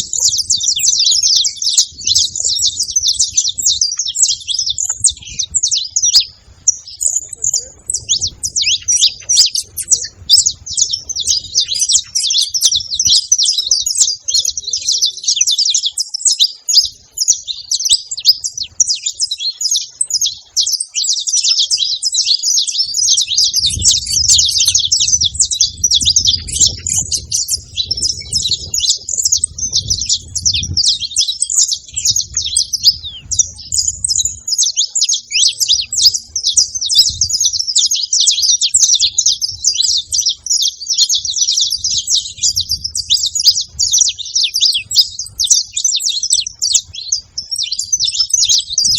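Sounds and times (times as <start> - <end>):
finch chirping: 0.0 - 48.9.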